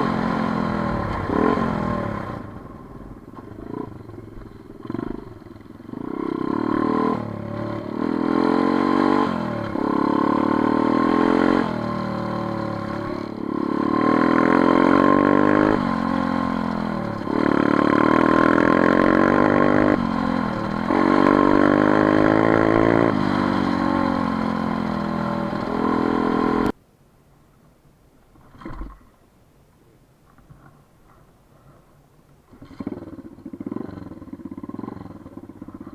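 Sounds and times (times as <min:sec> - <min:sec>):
motorcycle engine revving: 0:00.0 - 0:26.7, 0:32.5 - 0:35.9.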